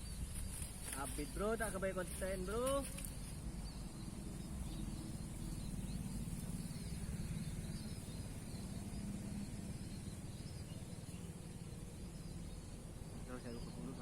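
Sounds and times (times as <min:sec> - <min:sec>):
constant high hiss: 0:00.0 - 0:14.0
faint bird chirps: 0:00.0 - 0:14.0.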